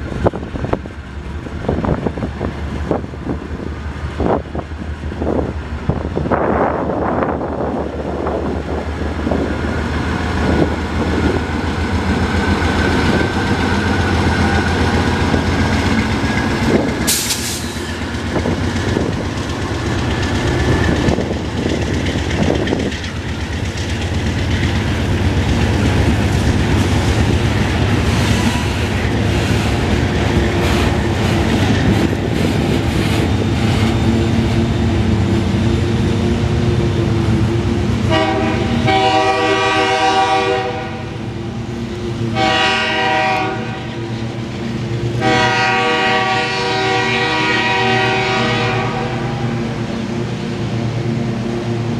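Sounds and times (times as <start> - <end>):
diesel locomotive running: 0.0 - 51.9
freight cars rolling on rails: 0.0 - 51.9.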